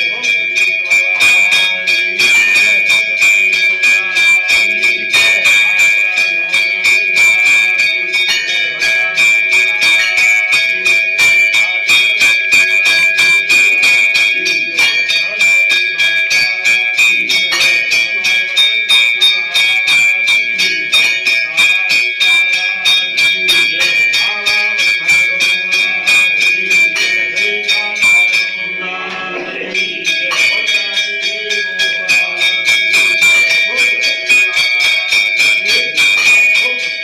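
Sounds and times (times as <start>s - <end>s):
temple bells rung rapidly: 0.0s - 37.0s.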